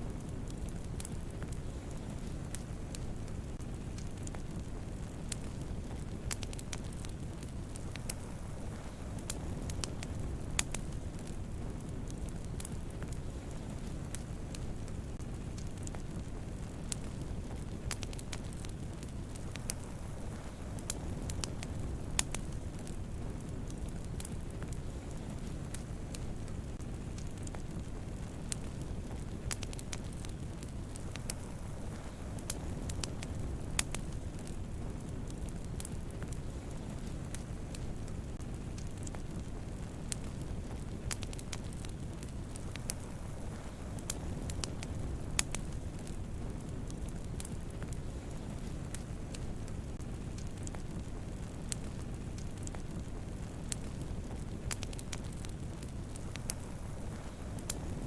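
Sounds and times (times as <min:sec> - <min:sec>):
campfire flames rumbling: 0:00.0 - 0:58.0
fire crackles and pops: 0:00.0 - 0:58.0.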